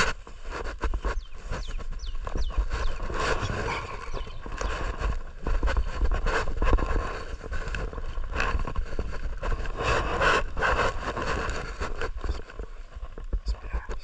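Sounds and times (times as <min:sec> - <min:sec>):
rustling and crackling: 0:00.0 - 0:14.0
wind noise on microphone: 0:00.0 - 0:14.0.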